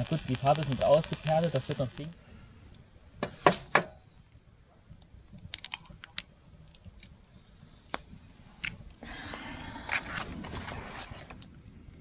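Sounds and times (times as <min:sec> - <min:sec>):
soft steady hiss: 0:00.0 - 0:12.0.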